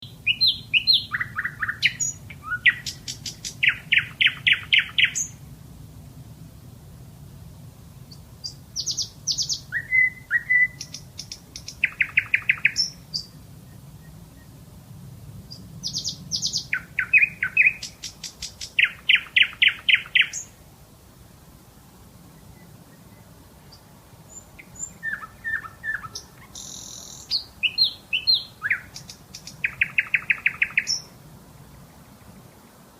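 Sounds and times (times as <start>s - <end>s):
nightingale singing: 0.0s - 5.4s, 8.0s - 14.6s, 15.5s - 20.6s, 22.2s - 32.8s.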